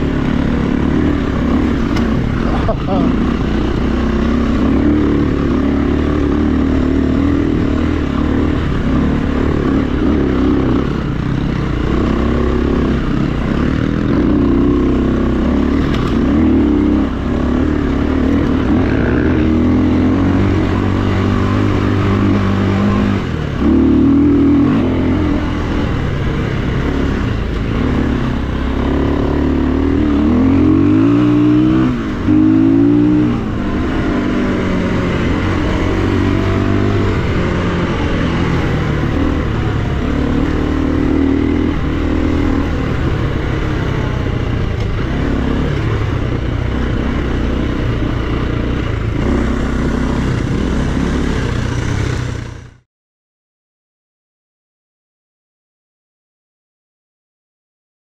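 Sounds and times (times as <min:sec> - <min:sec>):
dirt bike engine revving: 0:00.0 - 0:52.8.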